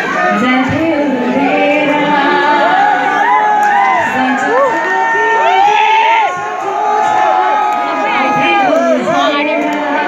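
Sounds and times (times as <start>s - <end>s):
concert crowd cheering and shouting: 0.0s - 10.0s.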